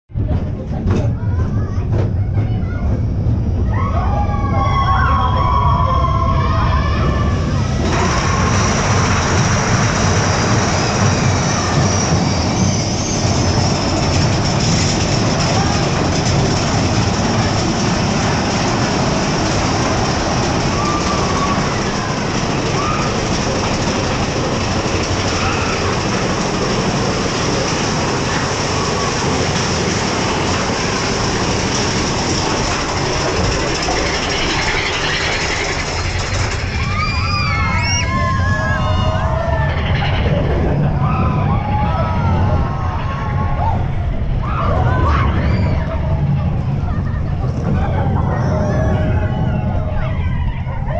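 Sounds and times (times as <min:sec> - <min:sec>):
roller coaster wheels on rails: 0:00.1 - 0:50.9.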